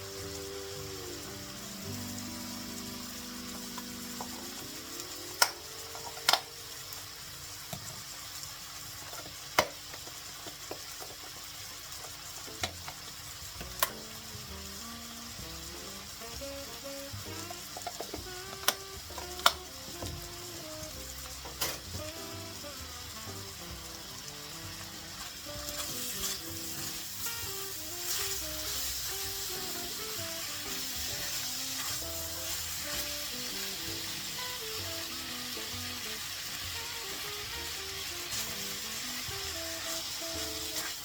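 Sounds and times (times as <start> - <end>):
food sizzling in a frying pan: 0.0 - 41.0.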